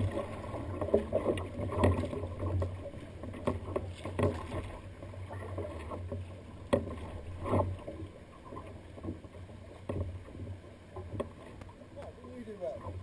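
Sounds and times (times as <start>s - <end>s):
water slapping against kayak hull: 0.0s - 13.0s.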